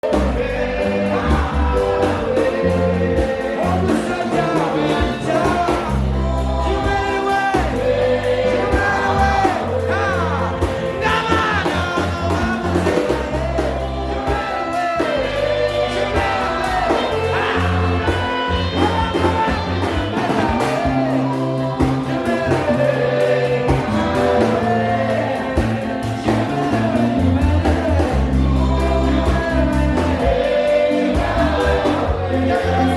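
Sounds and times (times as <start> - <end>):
band with bass and drums: 0.0 - 32.9.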